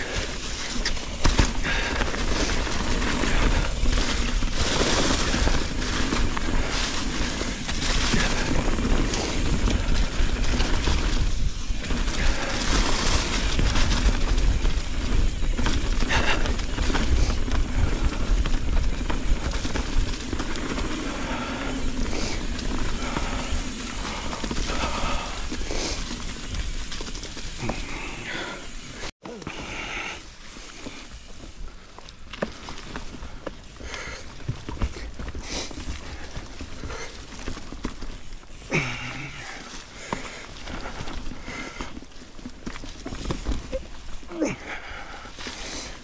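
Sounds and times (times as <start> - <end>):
bike rattling over bumps: 0.0 - 46.0
bike tyres rolling over leaves: 0.0 - 46.0.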